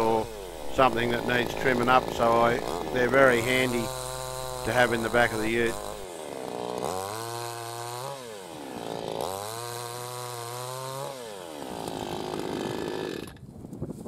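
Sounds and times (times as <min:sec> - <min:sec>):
chainsaw cutting wood: 0:00.0 - 0:13.5.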